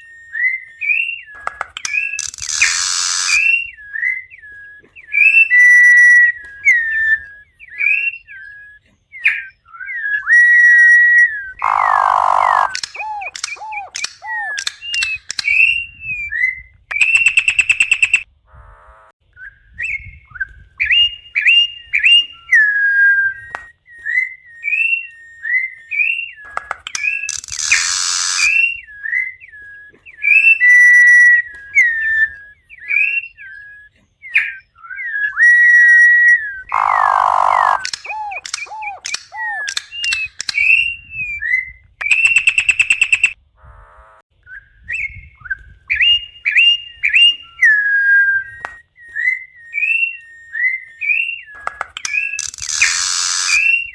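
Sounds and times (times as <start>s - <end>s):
bird whistling song: 0.0s - 18.3s, 19.3s - 43.4s, 44.4s - 53.9s.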